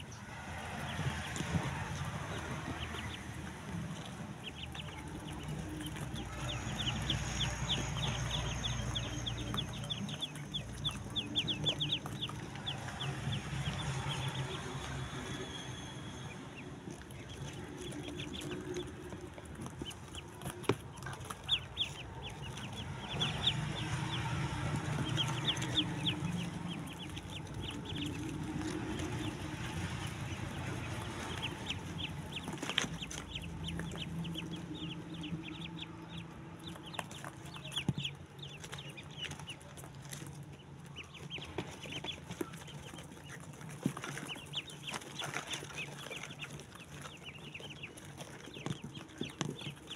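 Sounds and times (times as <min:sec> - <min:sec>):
ducklings peeping: 0:00.0 - 0:49.9
low steady hum: 0:00.0 - 0:49.9.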